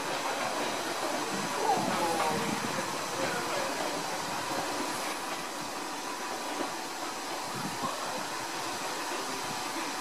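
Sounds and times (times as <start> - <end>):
electric train running: 0.0 - 10.0.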